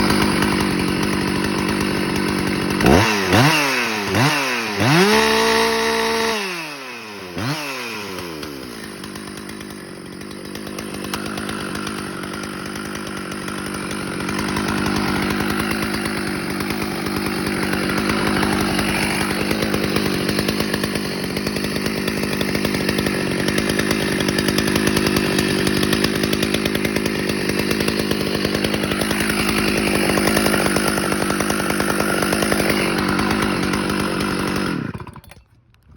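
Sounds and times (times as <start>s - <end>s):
chainsaw idling and revving: 0.0s - 35.7s.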